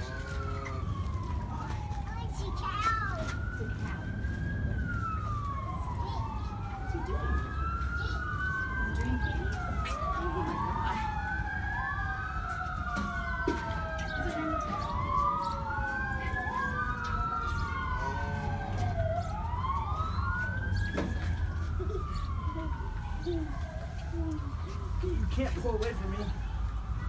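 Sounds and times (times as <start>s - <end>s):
sirens wailing: 0.0s - 27.0s.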